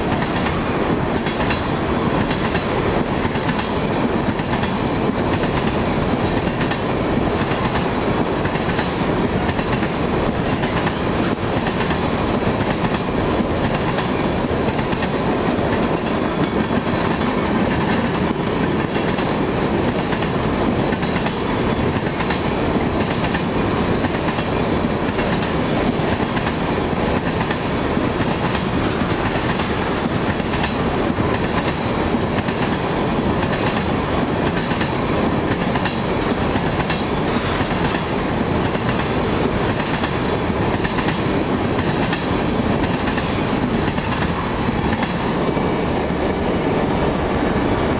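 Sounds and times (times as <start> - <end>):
freight train wheels on rail: 0.0 - 47.9.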